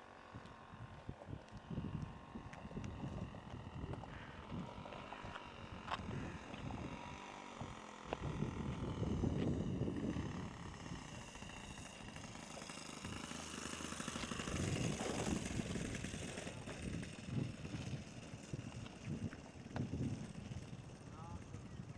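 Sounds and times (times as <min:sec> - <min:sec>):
model aeroplane engine running: 0:00.0 - 0:21.9
wind rumbling on microphone: 0:00.3 - 0:12.2, 0:14.3 - 0:21.9.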